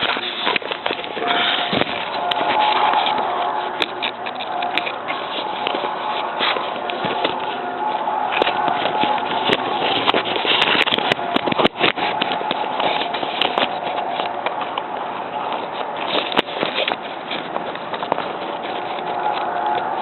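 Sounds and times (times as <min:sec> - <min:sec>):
continuous rushing noise: 0:00.0 - 0:20.0
droning hum: 0:00.0 - 0:20.0.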